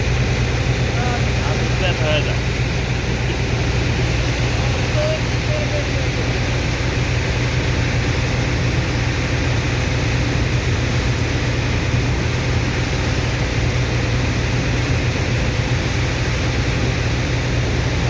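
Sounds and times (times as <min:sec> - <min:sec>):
pump engine droning: 0:00.0 - 0:18.0.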